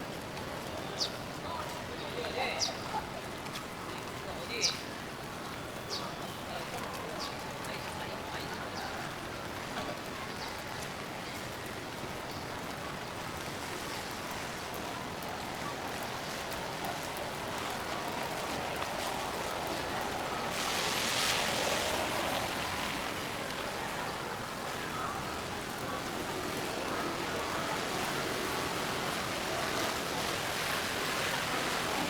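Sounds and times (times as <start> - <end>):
rain on wet street: 0.0 - 32.0.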